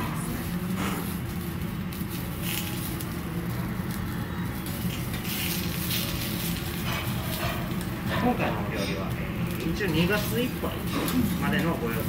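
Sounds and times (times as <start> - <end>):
greens sizzling on griddle: 0.0 - 12.0
steady low hum: 0.0 - 12.0.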